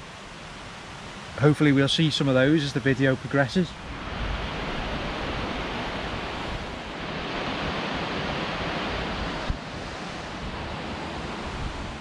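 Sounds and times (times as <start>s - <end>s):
river flowing: 0.0s - 12.0s
wind in trees: 0.0s - 12.0s
wind buffeting microphone: 2.2s - 12.0s.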